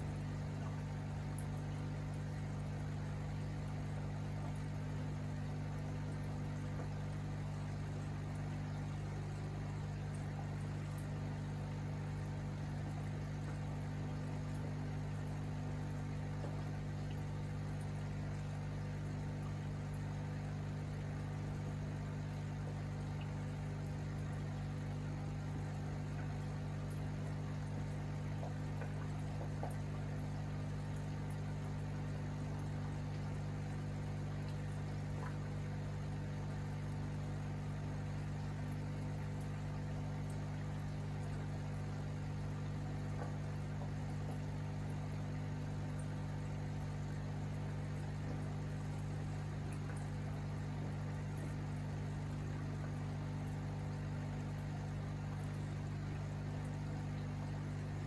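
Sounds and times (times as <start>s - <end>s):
electric hum of aquarium pumps: 0.0s - 58.0s
water bubbling: 0.0s - 58.0s.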